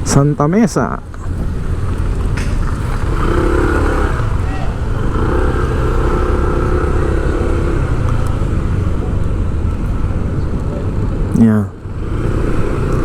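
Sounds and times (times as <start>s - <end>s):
road rumble: 0.0s - 13.0s
vehicle engine hum: 0.0s - 13.0s.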